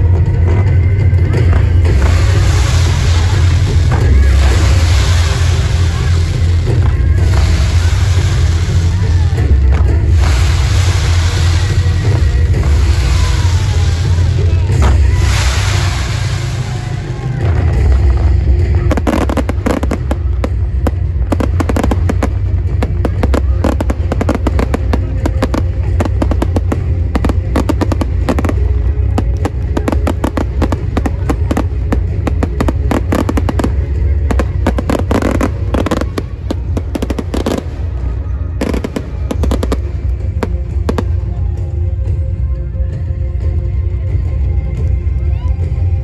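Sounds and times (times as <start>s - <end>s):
fireworks bangs and crackles: 0.0s - 46.0s
music playing: 0.0s - 46.0s.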